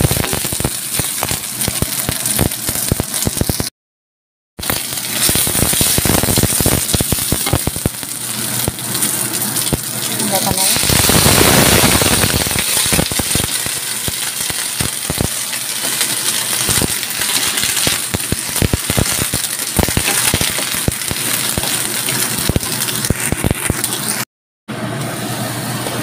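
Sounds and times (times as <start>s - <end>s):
vegetables sizzling in a wok: 0.0s - 3.7s, 4.6s - 26.0s.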